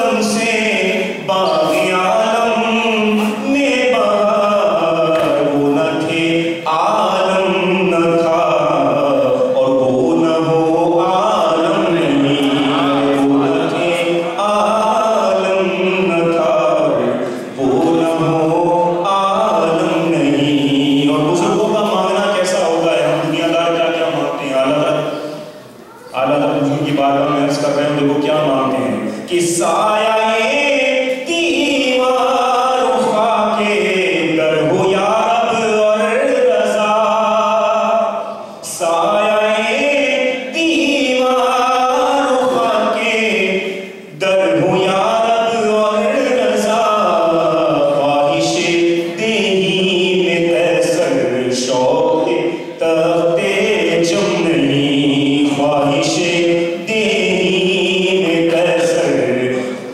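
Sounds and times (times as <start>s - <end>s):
man chanting into a microphone: 0.0s - 59.9s.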